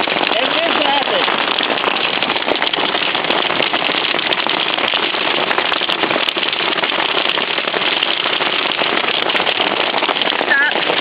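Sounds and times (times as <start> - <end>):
hail pattering: 0.0 - 11.0.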